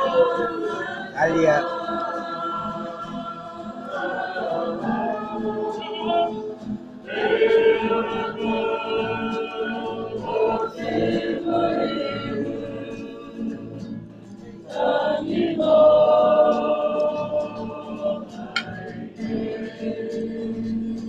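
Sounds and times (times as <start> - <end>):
choir singing slow song: 0.0 - 21.0.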